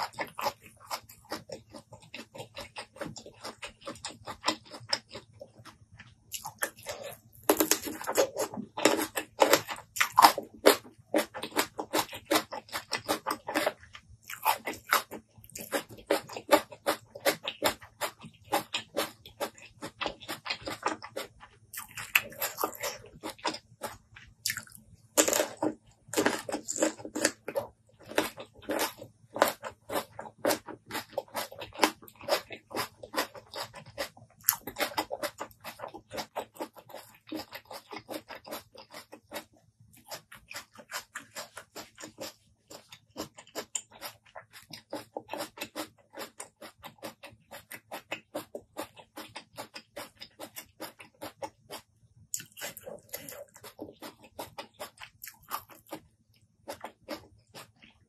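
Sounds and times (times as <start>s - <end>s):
crunching raw fruit: 0.0s - 58.0s.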